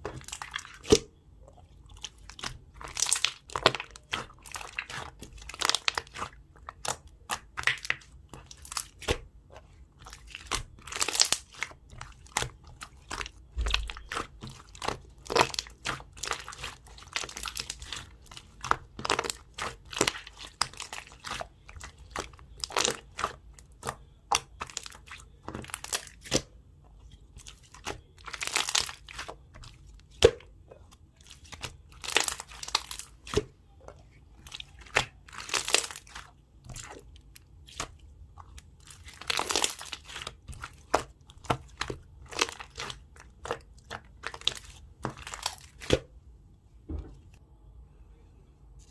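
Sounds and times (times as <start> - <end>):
slime squelching: 0.0 - 46.2
slime crackling and popping: 2.0 - 9.3, 10.0 - 26.5, 27.5 - 30.4, 31.2 - 33.5, 34.5 - 46.1.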